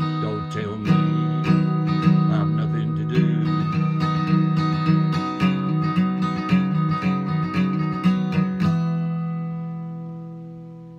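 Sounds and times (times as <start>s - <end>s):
acoustic guitar strumming: 0.0s - 10.9s.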